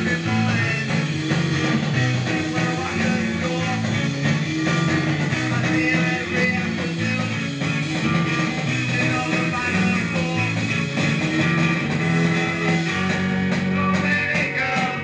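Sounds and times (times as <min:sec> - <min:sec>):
garage rock with electric guitar: 0:00.0 - 0:15.0.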